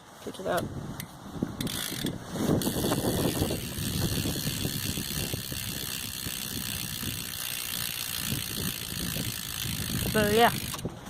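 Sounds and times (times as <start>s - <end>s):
bike hub freewheel ticking: 1.6s - 10.8s.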